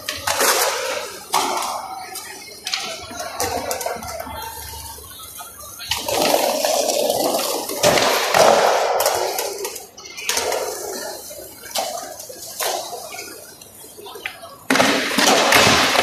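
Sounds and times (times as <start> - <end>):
skateboard clacks: 0.0 - 16.0
skateboard wheels rolling on tiles: 0.0 - 16.0.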